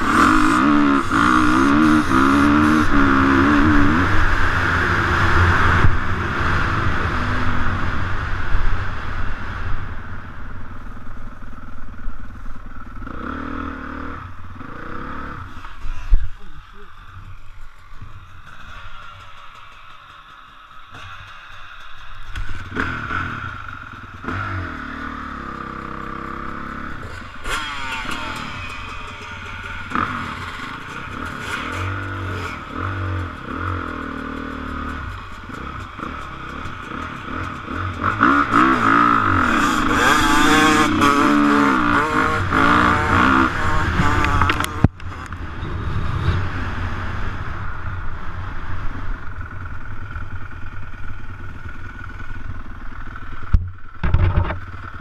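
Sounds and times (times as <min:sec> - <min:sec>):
dirt bike engine revving: 0:00.0 - 0:09.6, 0:11.4 - 0:47.3.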